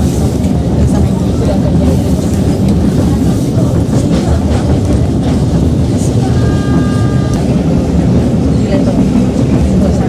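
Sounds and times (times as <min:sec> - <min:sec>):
train rumble inside carriage: 0:00.0 - 0:10.0.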